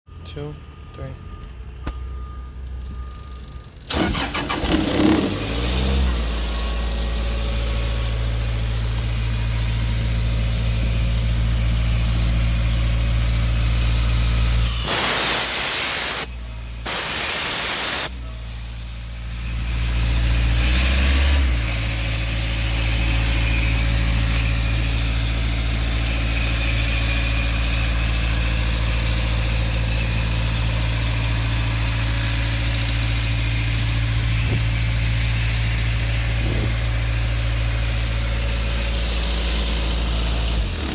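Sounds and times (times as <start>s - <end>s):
engine cranking and idling: 1.3s - 14.7s, 18.1s - 40.9s.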